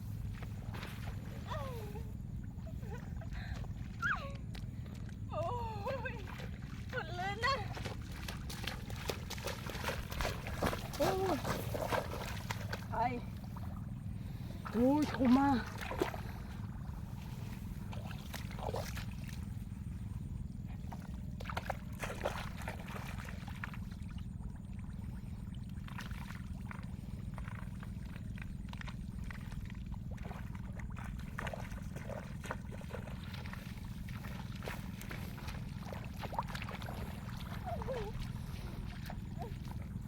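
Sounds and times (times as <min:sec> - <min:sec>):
shallow water splashing: 0:00.0 - 0:40.0
steady low rumble: 0:00.0 - 0:40.0.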